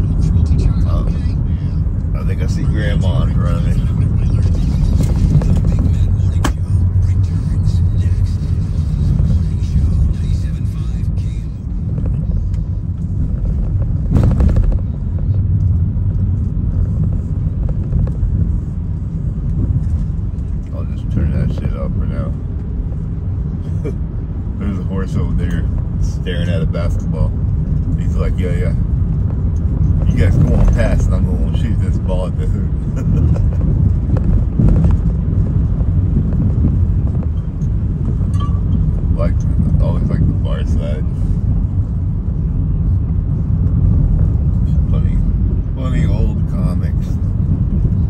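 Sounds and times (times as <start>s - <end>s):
car engine and tyre rumble: 0.0s - 48.0s.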